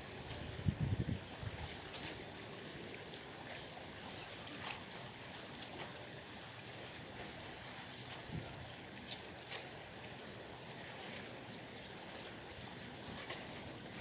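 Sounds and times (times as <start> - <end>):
high-pitched insect chirring: 0.0 - 14.0.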